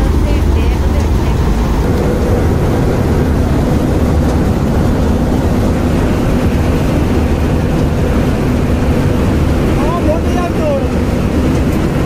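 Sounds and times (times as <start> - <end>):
combine harvester engine drone: 0.0 - 12.0
steady machinery hum: 0.0 - 12.0.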